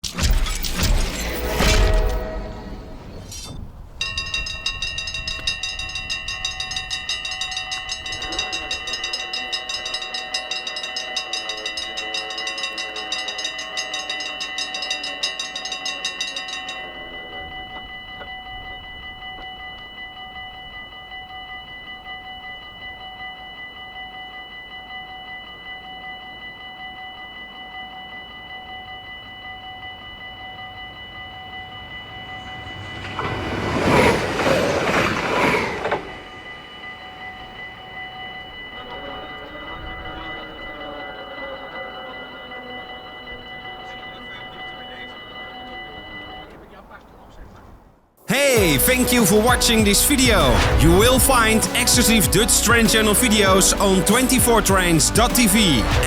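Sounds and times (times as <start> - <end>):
level crossing bells ringing: 0.0 - 56.0
approaching train rush: 0.6 - 25.7, 27.6 - 56.0.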